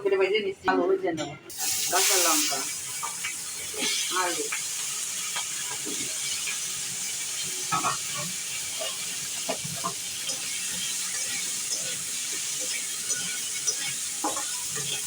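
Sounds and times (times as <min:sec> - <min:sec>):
potatoes sizzling in oil: 0:01.5 - 0:15.0.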